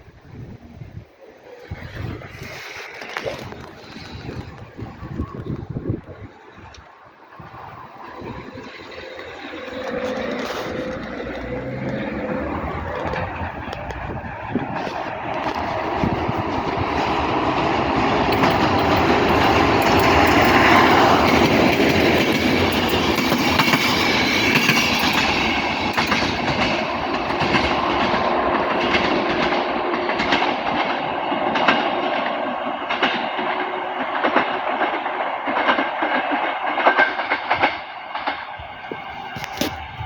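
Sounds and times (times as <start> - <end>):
passenger train running past: 0.0 - 40.0
wheels clicking over rail joints: 1.6 - 40.0.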